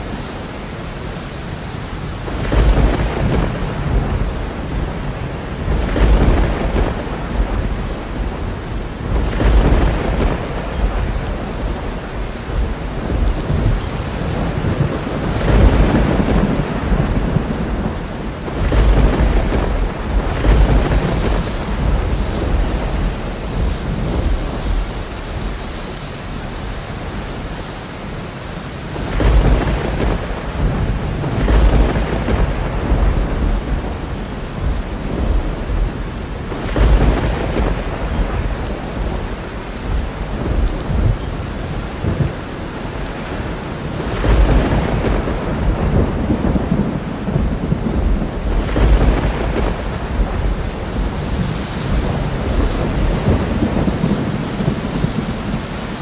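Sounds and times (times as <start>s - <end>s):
heavy rain: 0.0s - 56.0s
rolling thunder: 0.0s - 56.0s.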